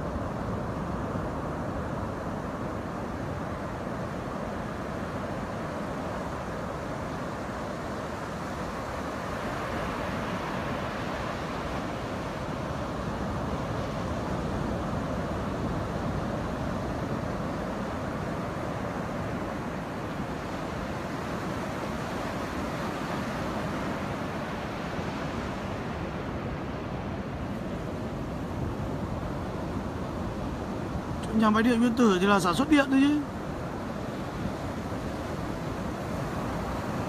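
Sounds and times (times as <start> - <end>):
ocean waves breaking: 0.0 - 37.0.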